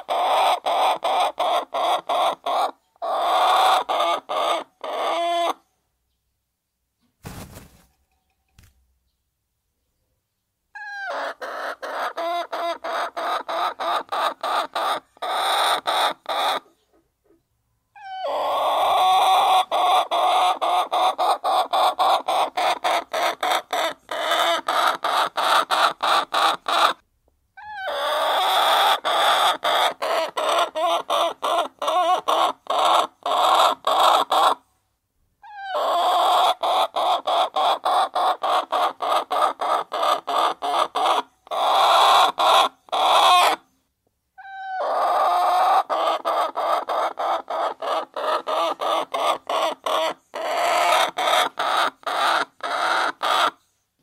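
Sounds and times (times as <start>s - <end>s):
hens clucking: 0.0s - 5.6s, 10.8s - 17.4s, 18.0s - 27.0s, 27.6s - 34.6s, 35.5s - 43.6s, 44.4s - 53.6s.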